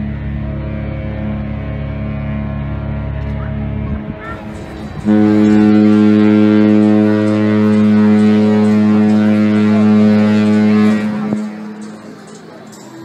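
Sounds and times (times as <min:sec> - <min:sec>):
ship's horn long low blast: 0:00.0 - 0:12.1.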